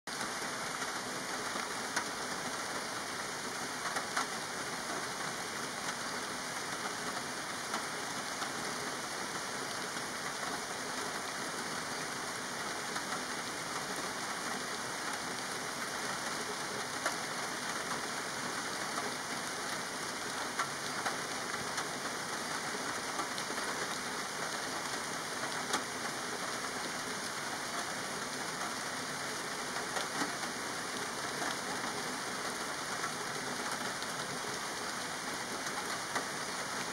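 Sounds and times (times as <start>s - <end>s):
steady rain: 0.1s - 36.9s.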